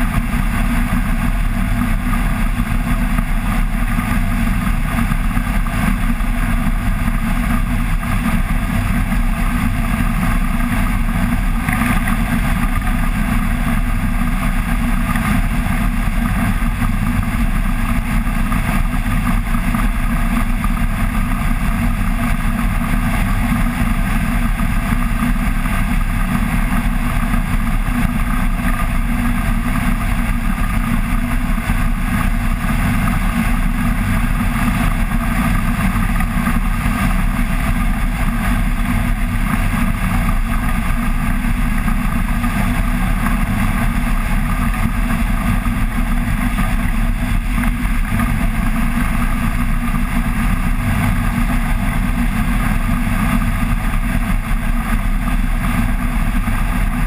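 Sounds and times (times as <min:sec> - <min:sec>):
propeller engine running: 0:00.0 - 0:57.0
wind rush on microphone: 0:00.0 - 0:57.0.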